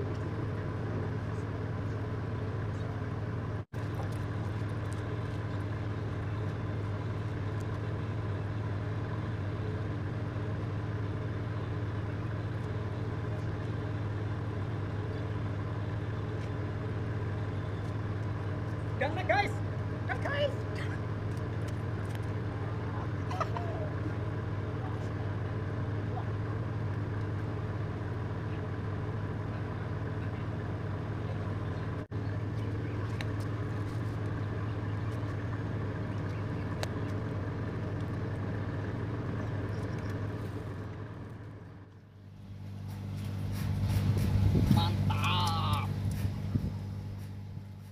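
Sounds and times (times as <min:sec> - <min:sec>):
large engine humming: 0:00.0 - 0:47.9.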